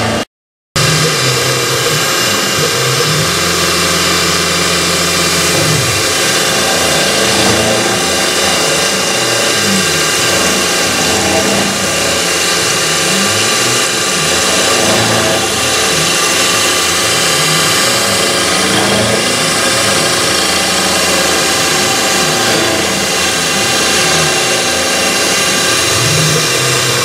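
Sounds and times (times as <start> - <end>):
coolant spraying: 0.8 - 27.0
milling machine spindle running: 0.8 - 27.0.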